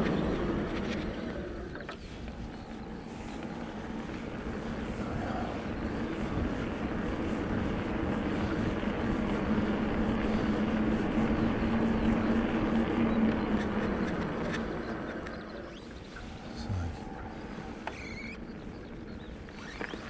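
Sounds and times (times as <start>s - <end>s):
electric bike motor drone: 0.0s - 20.0s
rushing wind: 0.0s - 20.0s.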